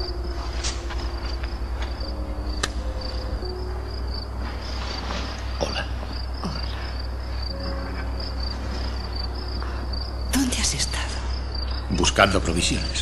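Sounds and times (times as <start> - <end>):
crickets chirping: 0.0 - 13.0
low steady hum: 0.0 - 13.0.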